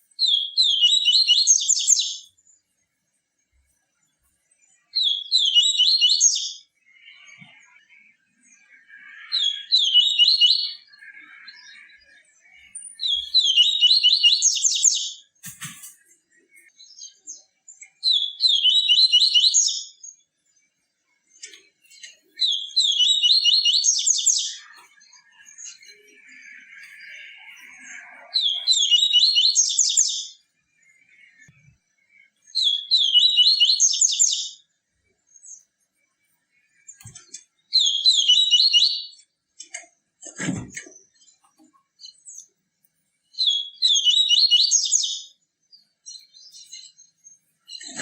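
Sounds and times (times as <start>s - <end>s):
seedeater bird song: 0.0s - 48.0s
soft bird twittering: 3.4s - 39.7s, 43.3s - 48.0s.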